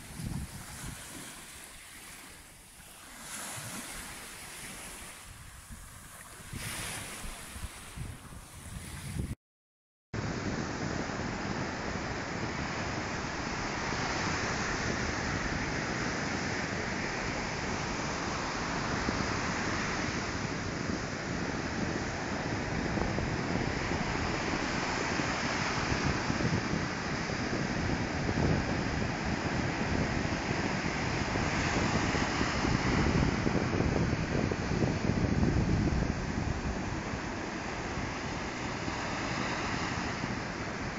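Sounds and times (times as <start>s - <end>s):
sea surf breaking on beach: 0.0s - 9.4s, 10.2s - 40.9s.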